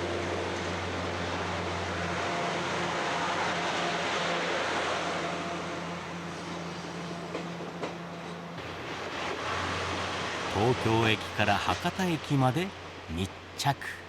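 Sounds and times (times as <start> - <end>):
train running hum and hiss: 0.0 - 14.0.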